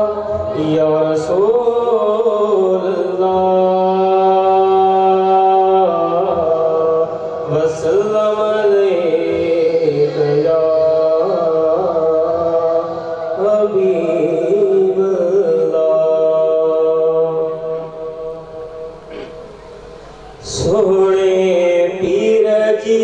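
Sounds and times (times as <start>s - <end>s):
man chanting into a microphone: 0.0s - 19.4s, 20.2s - 23.0s.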